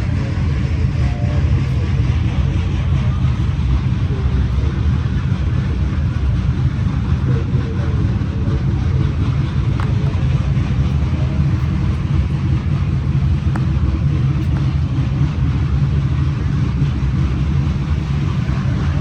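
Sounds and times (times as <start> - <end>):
car engines running: 0.0 - 19.0.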